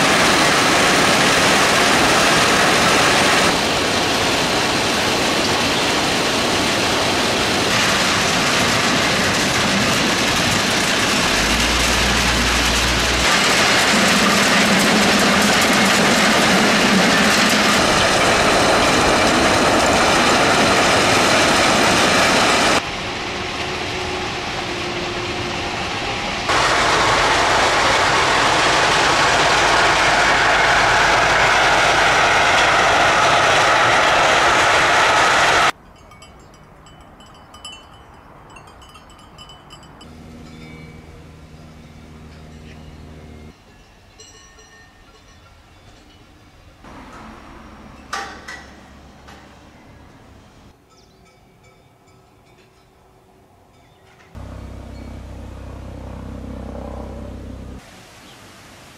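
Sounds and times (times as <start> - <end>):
train diesel engines and machinery: 0.0 - 57.9.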